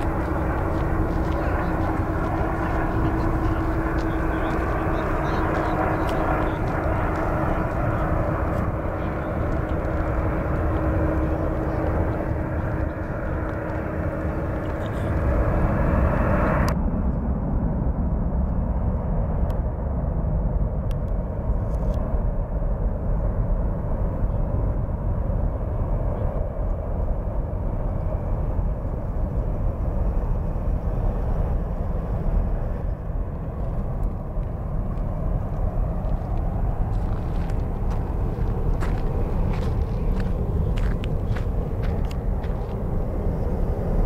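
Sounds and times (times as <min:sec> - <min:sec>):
jet climbing roar: 0:00.0 - 0:44.0
jet engines rumbling: 0:00.0 - 0:44.0.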